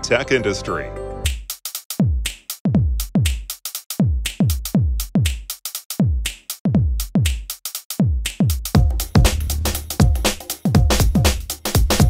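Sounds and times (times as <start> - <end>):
electronic music with drum machine: 1.2 - 12.0.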